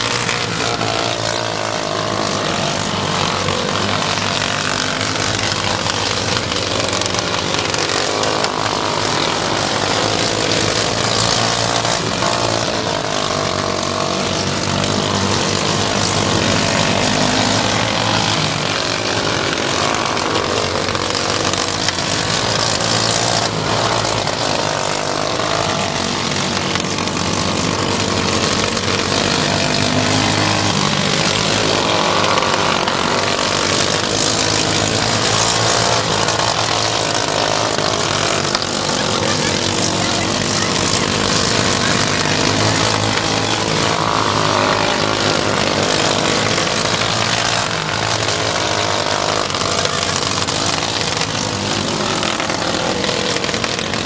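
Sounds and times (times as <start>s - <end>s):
race car engines running hard: 0.0s - 54.0s.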